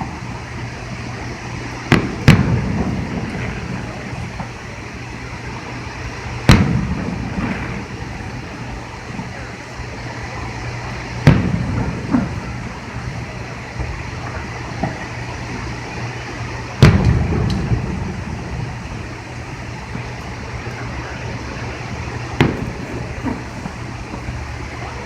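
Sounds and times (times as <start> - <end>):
fireworks bangs with echo: 0.0 - 25.0
fireworks pops and crackles: 0.0 - 25.0.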